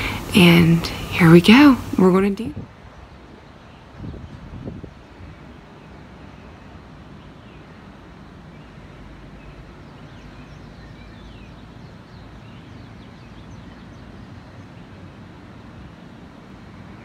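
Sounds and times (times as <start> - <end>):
birds chirping faintly: 0.0 - 17.0
low rumble of city ambience: 0.0 - 17.0.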